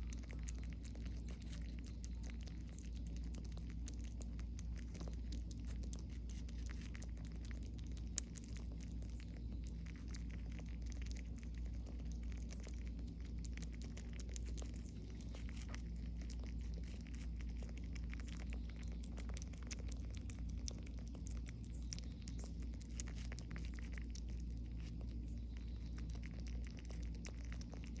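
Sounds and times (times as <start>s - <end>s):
squirrels nibbling and chewing: 0.0s - 28.0s
steady low hum: 0.0s - 28.0s.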